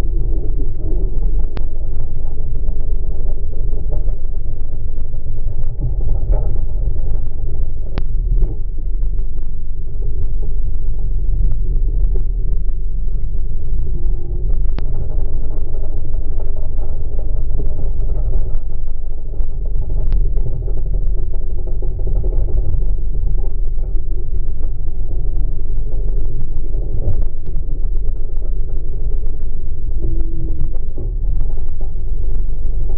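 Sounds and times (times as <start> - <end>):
outboard motor rumbling: 0.0 - 32.9.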